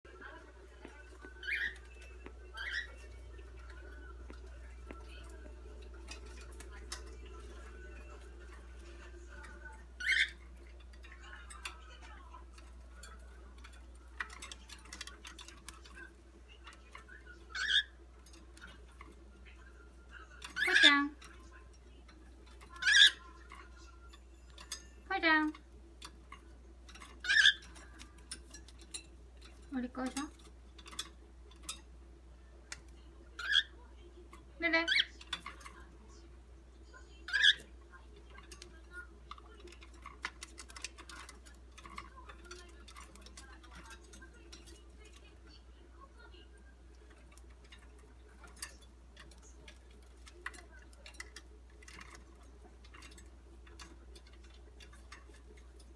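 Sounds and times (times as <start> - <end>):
bird clicking and tapping: 0.1 - 55.9.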